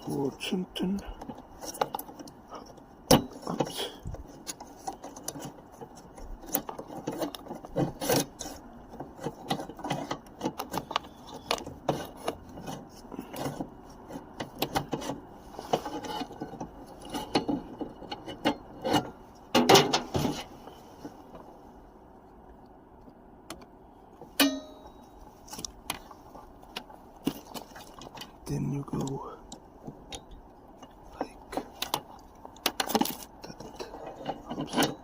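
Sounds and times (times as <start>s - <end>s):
small hard parts scraping and clicking: 0.0s - 21.6s, 24.1s - 35.0s.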